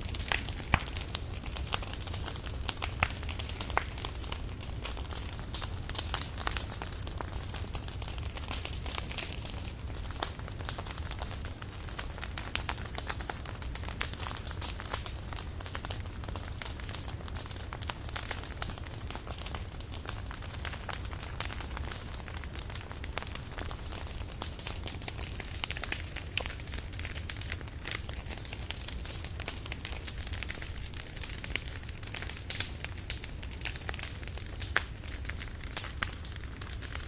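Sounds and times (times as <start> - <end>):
firewood crackling and popping: 0.0 - 37.0.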